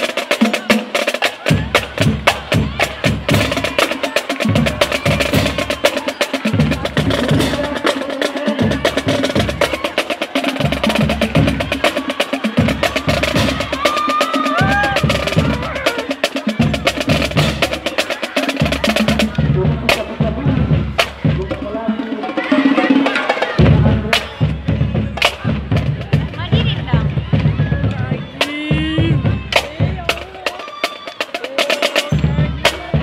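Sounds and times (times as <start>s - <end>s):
deep drum beats: 0.0s - 33.0s.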